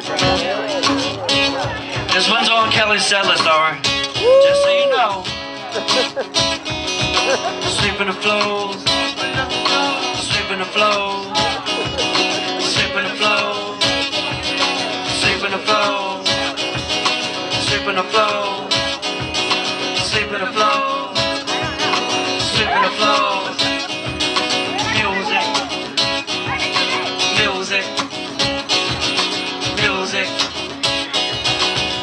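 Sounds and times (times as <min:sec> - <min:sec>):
acoustic guitar: 0:00.0 - 0:32.0
drum kit beat: 0:00.0 - 0:32.0.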